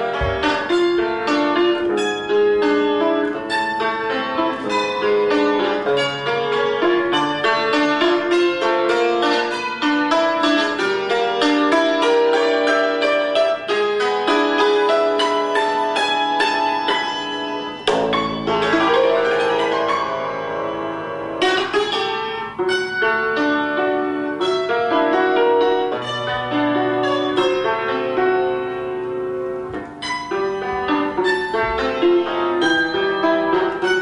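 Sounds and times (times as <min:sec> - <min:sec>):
cimbalom played with hammers: 0:00.0 - 0:29.1, 0:29.7 - 0:34.0.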